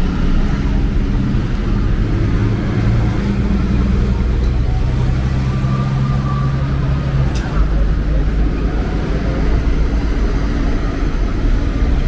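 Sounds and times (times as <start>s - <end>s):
road noise rumble: 0.0s - 12.0s
vehicle engine humming: 0.0s - 12.0s.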